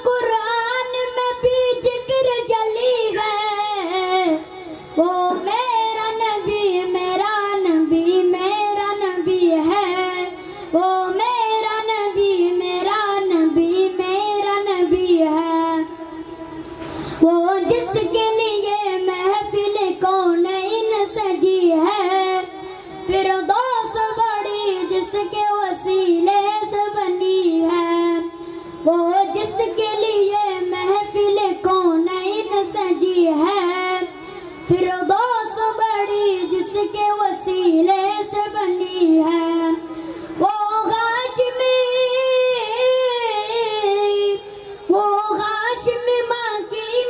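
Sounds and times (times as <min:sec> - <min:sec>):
boy singing into a microphone: 0:00.0 - 0:47.0.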